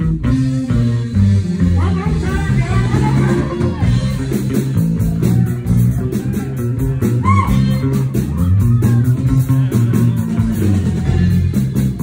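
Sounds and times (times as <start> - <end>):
blues band playing: 0.0 - 12.0
electric bass guitar: 0.0 - 12.0.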